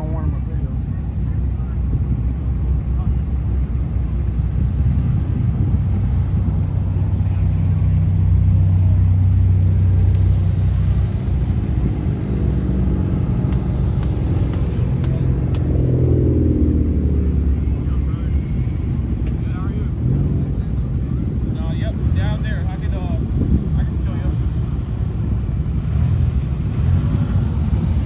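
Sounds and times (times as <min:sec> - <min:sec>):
car engines driving past: 0:00.0 - 0:28.0.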